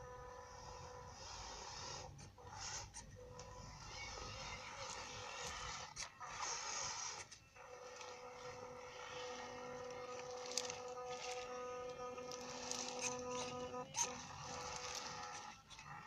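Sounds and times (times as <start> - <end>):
toy truck motor whining: 0.0 - 16.0.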